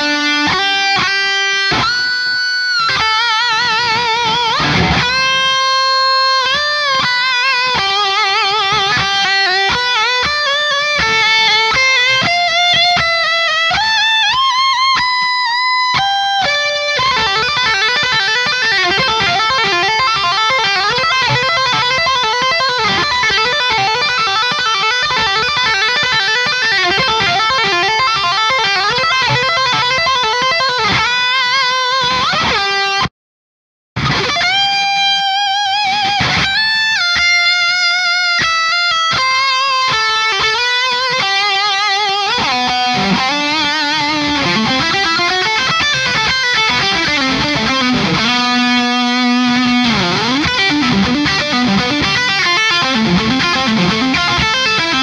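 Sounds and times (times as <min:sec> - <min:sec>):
high-gain electric guitar: 0:00.0 - 0:33.1, 0:34.0 - 0:55.0.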